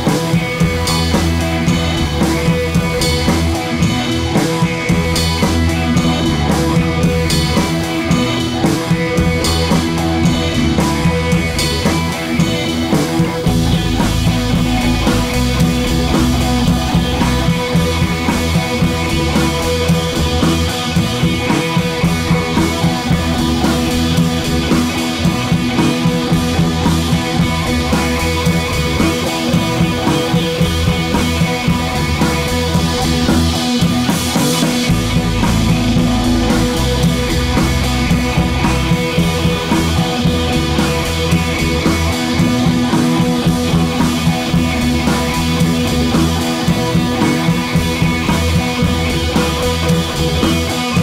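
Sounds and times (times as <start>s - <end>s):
rock music with drums: 0.0s - 51.0s.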